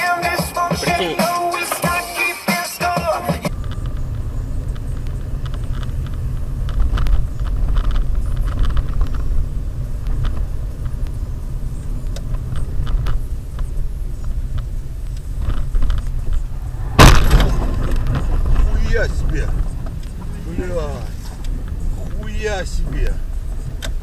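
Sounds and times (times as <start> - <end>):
car driving rumble: 3.4 - 24.0.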